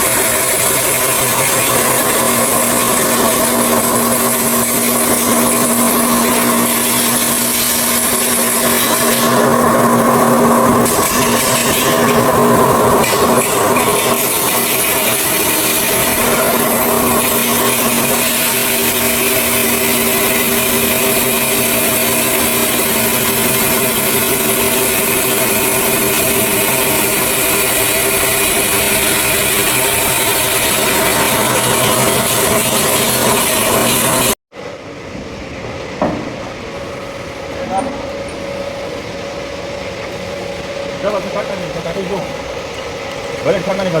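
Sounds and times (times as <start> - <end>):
machinery loud hiss and hum: 0.0 - 44.0.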